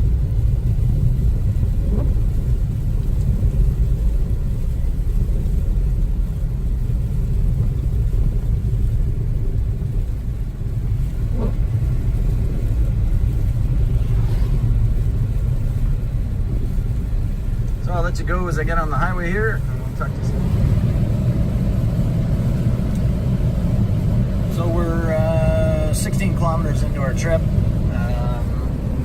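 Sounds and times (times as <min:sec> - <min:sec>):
road and tyre rumble in car: 0:00.0 - 0:29.0.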